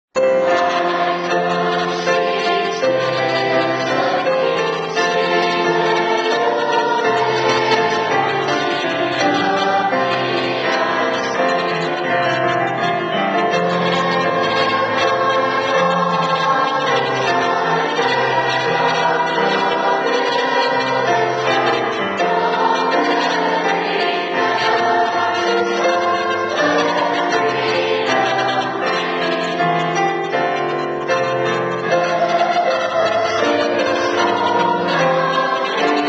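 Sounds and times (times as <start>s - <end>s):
keyboard accompaniment: 0.2s - 36.0s
youth chorus singing: 0.2s - 36.0s.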